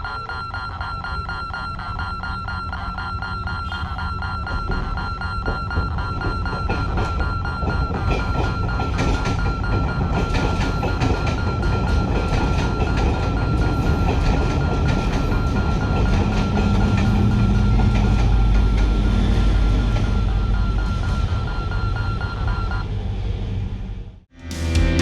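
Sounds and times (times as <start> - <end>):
pulsing crossing alarm tone: 0.0 - 22.9.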